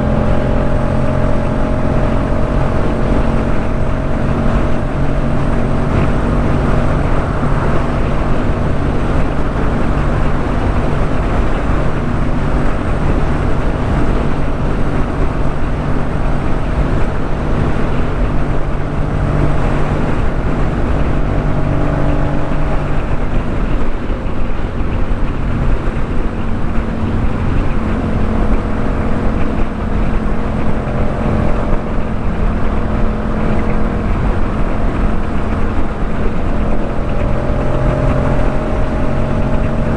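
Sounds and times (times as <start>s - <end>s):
motorcycle engine cruising: 0.0s - 39.9s
road and wind rumble: 0.0s - 39.9s.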